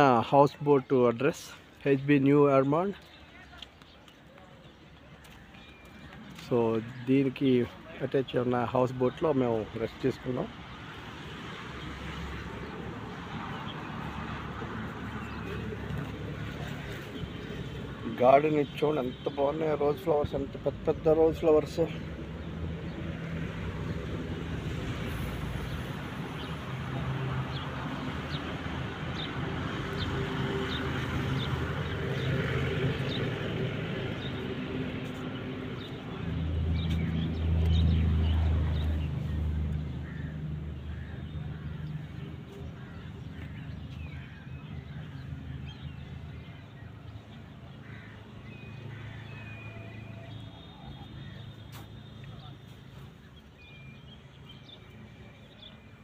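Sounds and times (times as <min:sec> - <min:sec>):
hum of motor traffic: 0:00.0 - 0:56.0.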